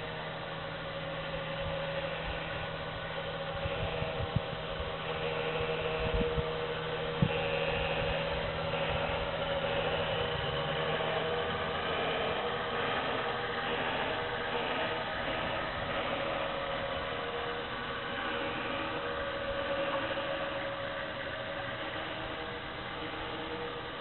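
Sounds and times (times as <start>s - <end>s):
model locomotive whine and hiss: 0.0s - 24.0s.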